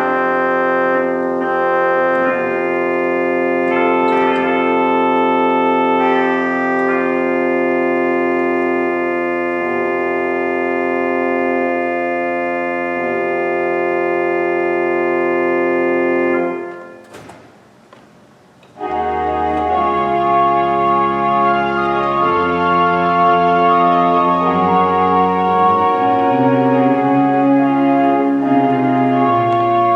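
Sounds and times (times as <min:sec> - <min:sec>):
deep organ bass note: 0:00.0 - 0:29.9
organ playing held chords: 0:00.0 - 0:29.9.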